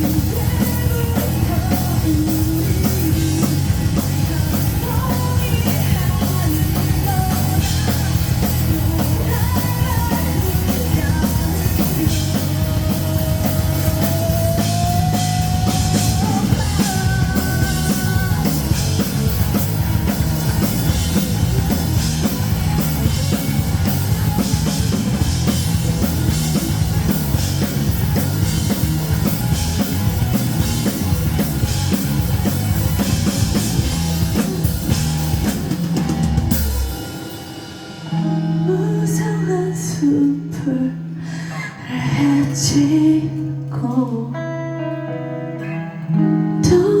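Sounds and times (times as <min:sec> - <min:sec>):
rock band playing live: 0:00.0 - 0:41.2, 0:42.0 - 0:47.0.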